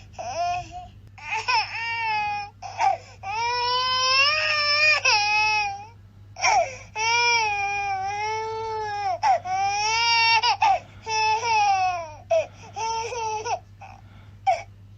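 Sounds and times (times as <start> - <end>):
baby crying: 0.0 - 14.7.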